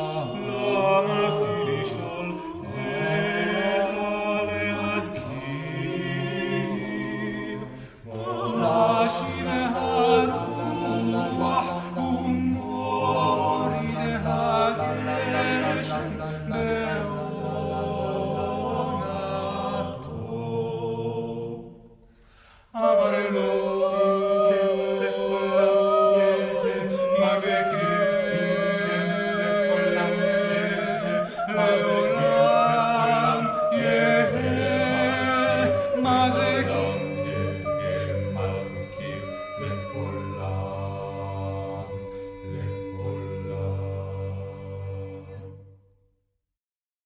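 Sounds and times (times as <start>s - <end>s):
chant-like singing: 0.0s - 22.0s, 22.7s - 45.9s
chamber ensemble music: 0.0s - 45.8s.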